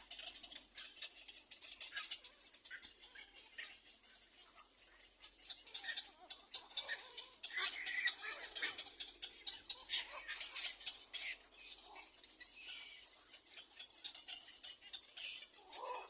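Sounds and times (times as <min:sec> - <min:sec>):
egret chicks clicking and rustling: 0:00.0 - 0:16.0.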